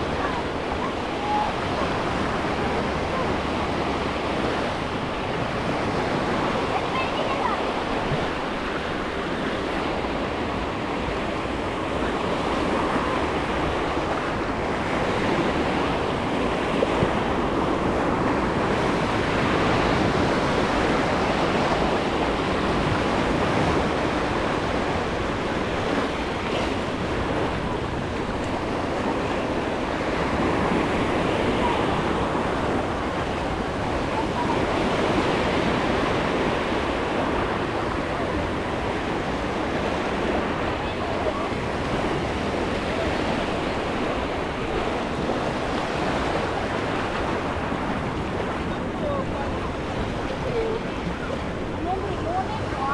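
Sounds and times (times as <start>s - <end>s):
sea waves washing onto beach: 0.0s - 52.9s.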